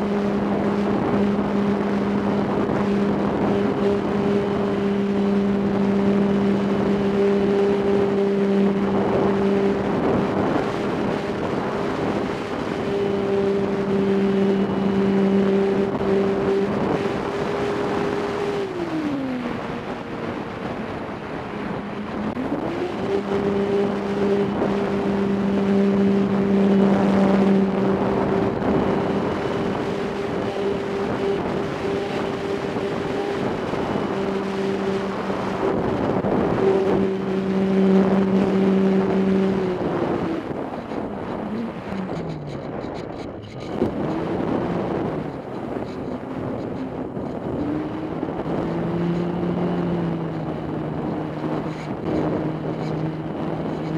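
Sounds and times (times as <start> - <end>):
model airplane motor and propeller: 0.0 - 53.9
wind noise on microphone: 0.0 - 53.9.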